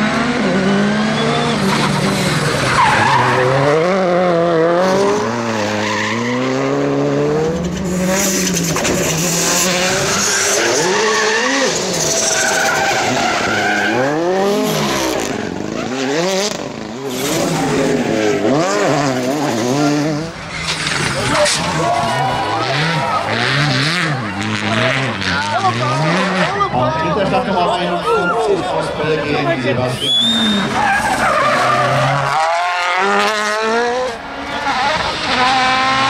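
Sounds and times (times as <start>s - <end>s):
rally car engines revving: 0.0s - 36.0s
tyres skidding on tarmac: 0.0s - 36.0s.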